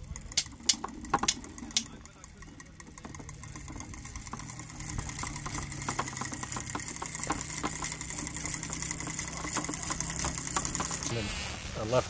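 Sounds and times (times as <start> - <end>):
irregular clicks and ticks: 0.0 - 11.2
low mechanical hum: 0.0 - 12.0.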